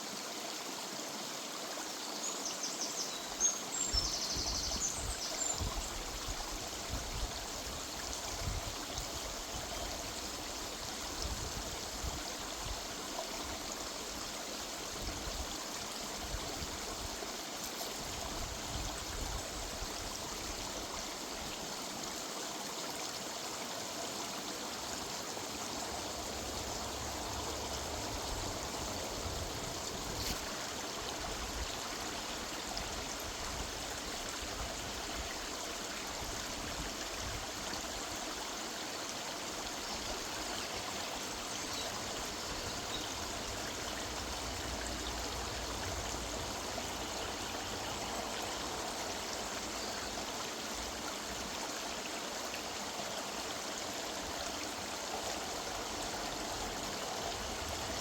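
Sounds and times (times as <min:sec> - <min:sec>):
river water running over stones: 0:00.0 - 0:58.0.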